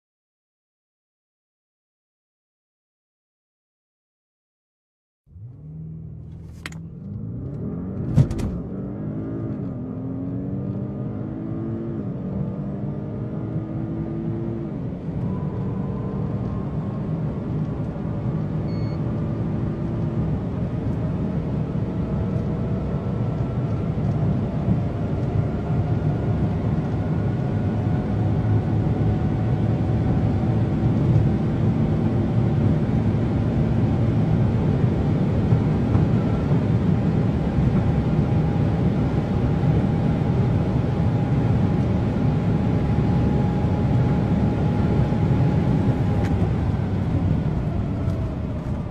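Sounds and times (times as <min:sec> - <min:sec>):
car engine accelerating: 0:05.3 - 0:48.9.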